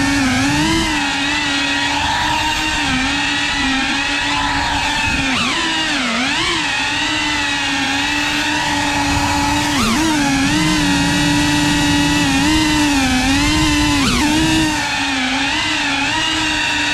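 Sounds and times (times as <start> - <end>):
drone propellers buzzing: 0.0 - 16.9.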